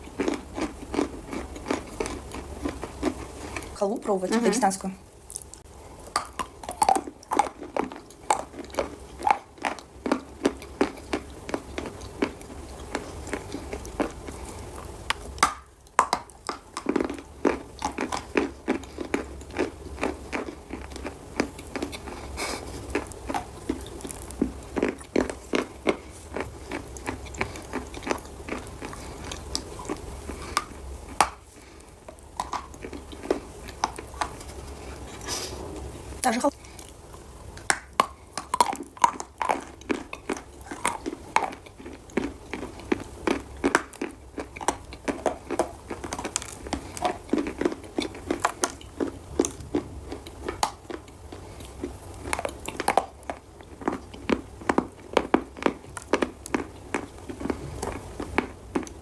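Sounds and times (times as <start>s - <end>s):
chalk being chewed crunching: 0.0s - 3.8s, 5.3s - 35.6s, 37.6s - 59.0s.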